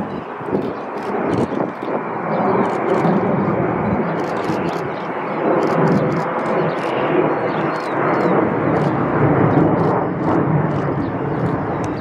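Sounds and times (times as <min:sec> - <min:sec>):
jet aircraft rumble overhead: 0:00.0 - 0:12.0.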